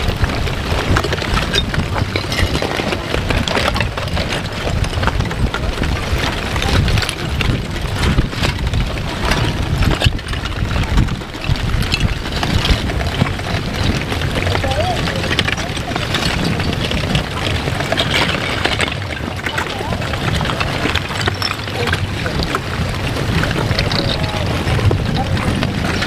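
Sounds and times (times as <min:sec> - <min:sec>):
lava crust crackling and clinking: 0:00.0 - 0:26.0
low rumble: 0:00.0 - 0:26.0.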